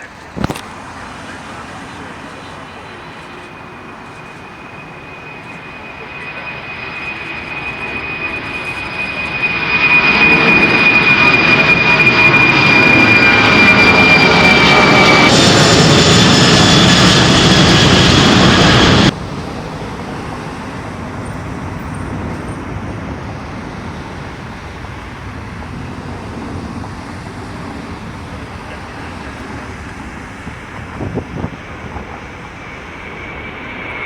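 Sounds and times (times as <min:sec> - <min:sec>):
jet engines whining: 0:00.0 - 0:34.0
quiet jet rumble: 0:00.0 - 0:34.0.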